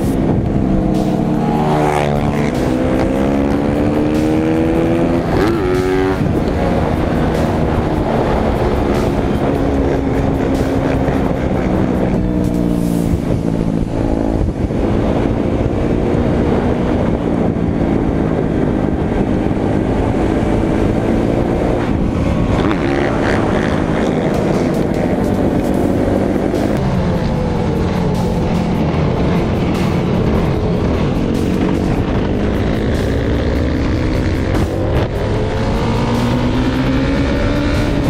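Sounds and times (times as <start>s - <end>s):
heavy low rushing noise: 0.0s - 38.0s
motorbike engine revving: 0.0s - 38.0s.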